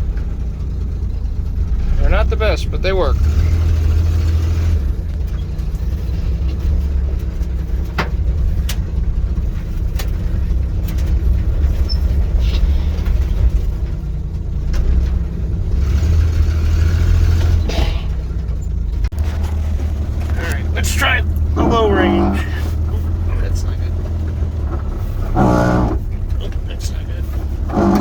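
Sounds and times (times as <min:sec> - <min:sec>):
pickup engine running: 0:00.0 - 0:28.0.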